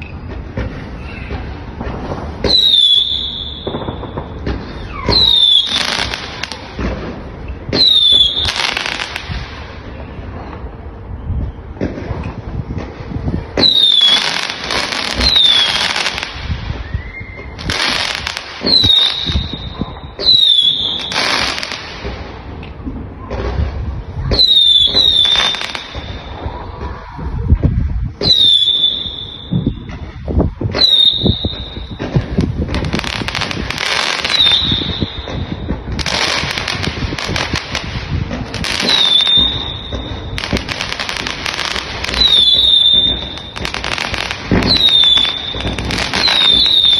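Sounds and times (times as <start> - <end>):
firework whistles: 0.0 - 12.5, 13.5 - 22.1, 24.2 - 26.5, 28.2 - 46.9
fireworks bursts and crackling: 0.0 - 46.9.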